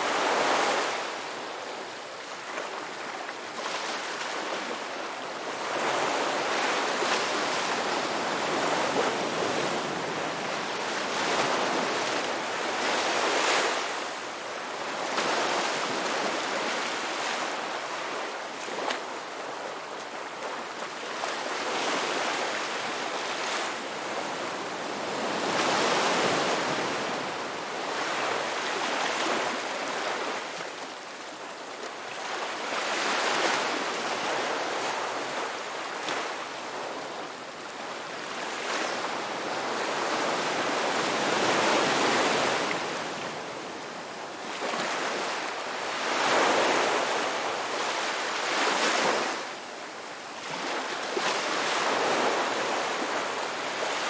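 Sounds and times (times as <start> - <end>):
ocean waves breaking on shore: 0.0 - 31.4, 32.0 - 54.0.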